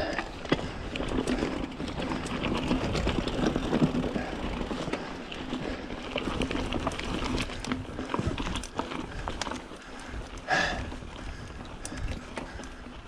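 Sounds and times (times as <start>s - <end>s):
bike clicks and rattles: 0.0s - 13.0s
bike tyres on dirt: 0.0s - 13.0s.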